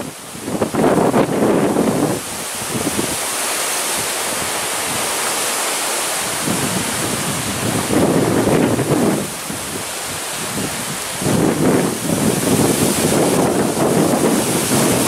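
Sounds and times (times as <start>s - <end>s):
wind buffeting microphone: 0.0s - 5.2s, 6.2s - 15.0s
strong gusty wind: 0.0s - 15.0s.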